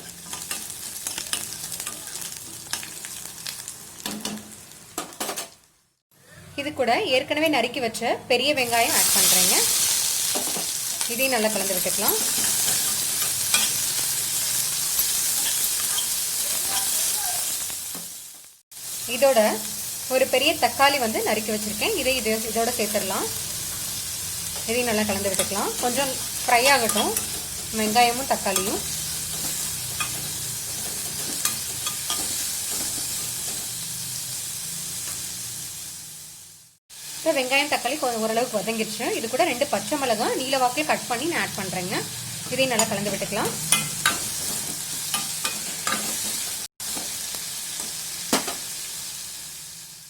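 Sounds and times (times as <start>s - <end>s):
onions sizzling in oil: 0.0s - 5.9s, 8.6s - 50.0s.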